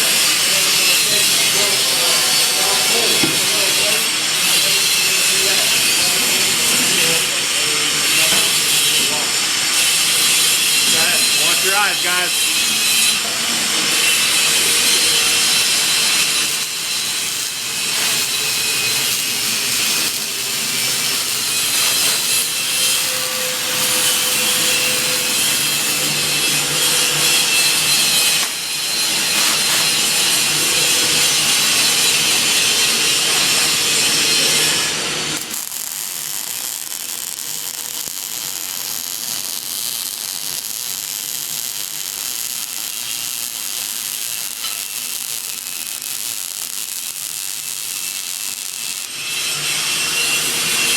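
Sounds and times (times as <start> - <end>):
welding arc crackling and hissing: 0.0 - 50.9.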